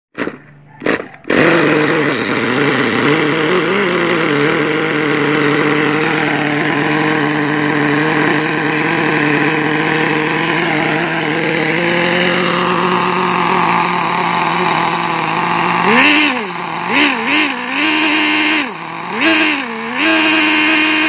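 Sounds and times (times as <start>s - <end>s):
model engine running at high rpm: 0.2s - 21.0s.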